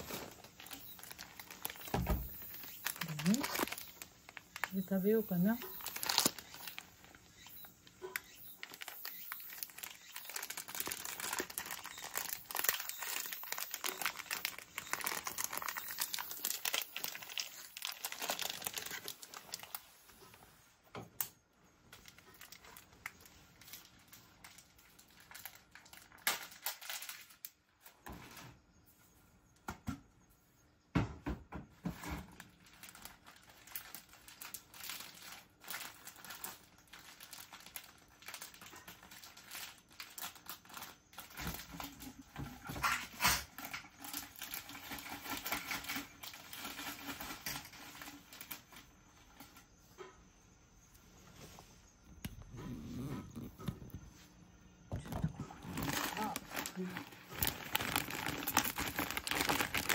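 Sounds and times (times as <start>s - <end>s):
plastic packet crinkling and tearing: 0.0s - 20.4s, 21.9s - 27.9s, 32.3s - 49.0s, 55.0s - 59.9s.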